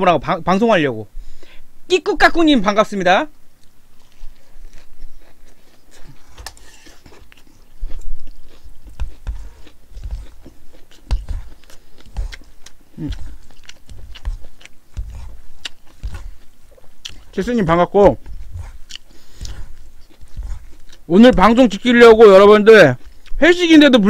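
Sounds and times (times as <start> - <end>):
wet crunchy chewing: 3.6 - 23.5.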